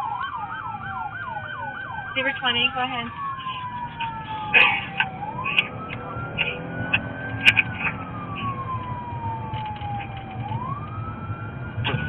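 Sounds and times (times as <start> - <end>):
emergency siren wailing: 0.0 - 12.0
vehicle interior rumble: 0.0 - 12.0.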